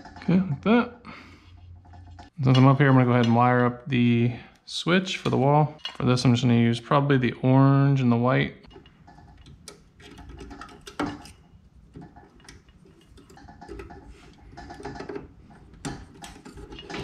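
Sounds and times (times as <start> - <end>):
wires clicking and rustling: 0.0 - 6.6, 8.6 - 17.0.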